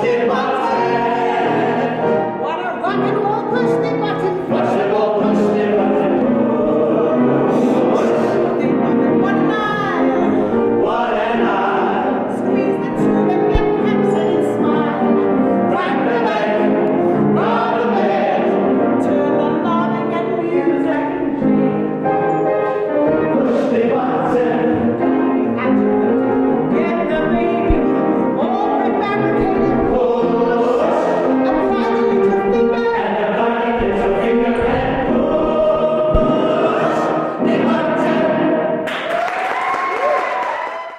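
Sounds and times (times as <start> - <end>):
voices singing show tune: 0.0 - 38.9
musical accompaniment: 0.0 - 39.3.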